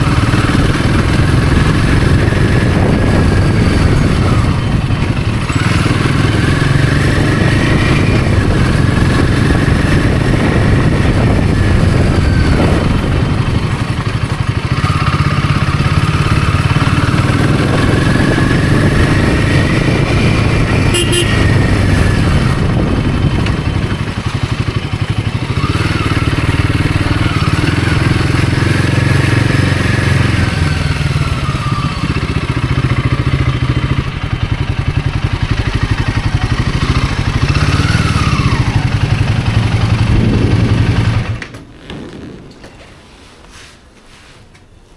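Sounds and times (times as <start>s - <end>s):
motorcycle engine running: 0.0s - 43.4s.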